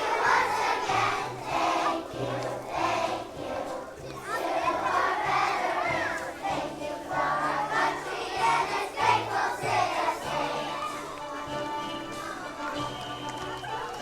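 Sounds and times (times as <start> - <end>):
children singing together: 0.0 - 12.3
instrumental accompaniment: 0.0 - 14.0.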